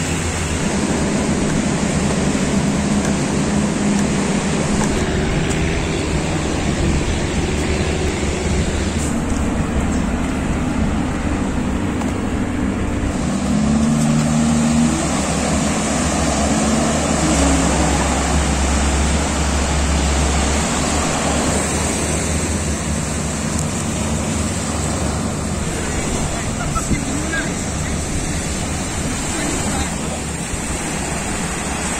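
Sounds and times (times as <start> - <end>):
distant boat engine running: 0.0 - 31.9
surf: 0.0 - 31.9
wind: 0.0 - 31.9.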